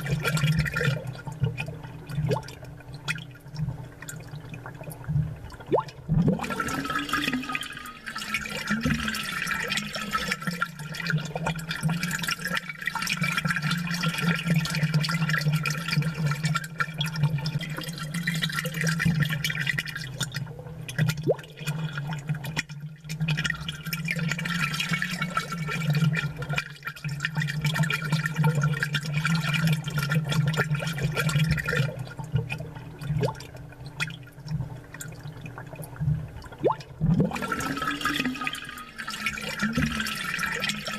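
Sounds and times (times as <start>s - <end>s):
aquarium water bubbling and splashing: 0.0s - 40.9s.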